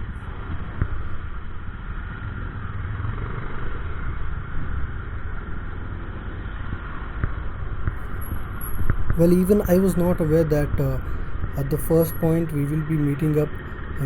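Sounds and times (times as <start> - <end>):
motorcycle engines: 0.0 - 14.0
traffic road noise: 0.0 - 14.0.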